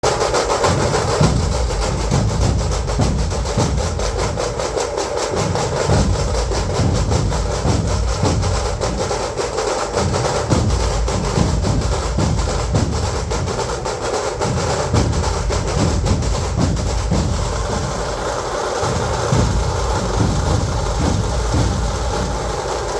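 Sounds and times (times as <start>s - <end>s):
drums in fast driving rhythm: 0.0s - 22.9s.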